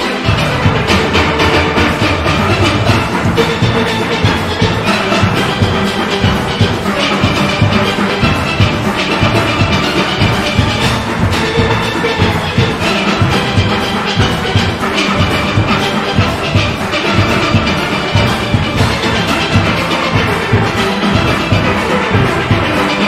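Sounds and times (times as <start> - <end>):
drums and percussion beat: 0.0 - 23.0
steelpans playing: 0.0 - 23.0.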